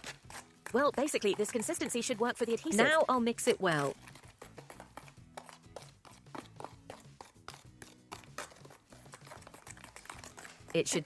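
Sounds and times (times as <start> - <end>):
faint music: 0.0 - 11.0
tool scraping adhesive in container: 0.0 - 11.0.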